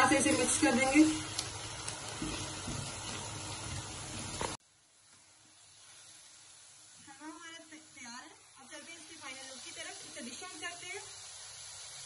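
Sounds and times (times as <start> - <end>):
food hissing in a wok: 0.0 - 12.0.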